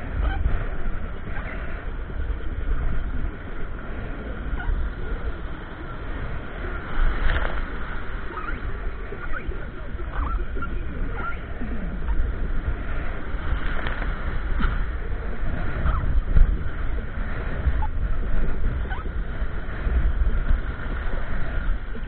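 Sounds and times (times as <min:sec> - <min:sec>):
water sloshing around kayak: 0:00.0 - 0:22.0
wind buffeting microphone: 0:00.0 - 0:22.0.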